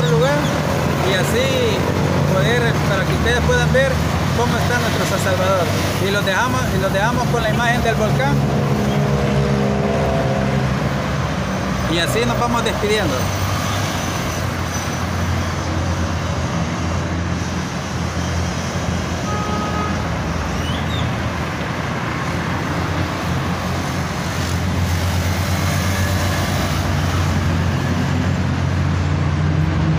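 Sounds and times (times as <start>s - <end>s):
cars passing: 0.0s - 29.9s
low rumble of engines and tyres: 0.0s - 29.9s.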